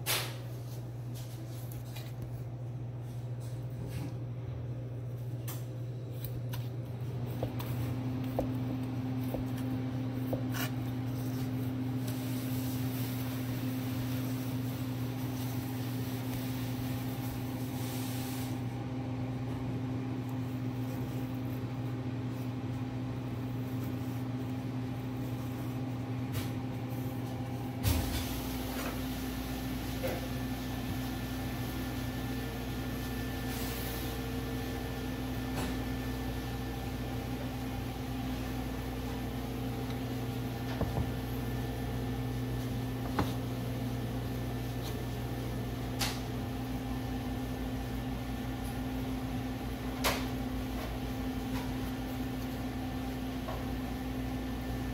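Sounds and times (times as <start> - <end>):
kitchen machinery hum: 0.0 - 54.9.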